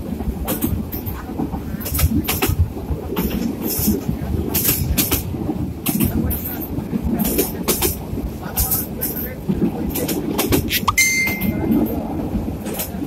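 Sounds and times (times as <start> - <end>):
train wheels rumbling on track: 0.0 - 13.0
wheels clicking over rail joints: 0.0 - 13.0.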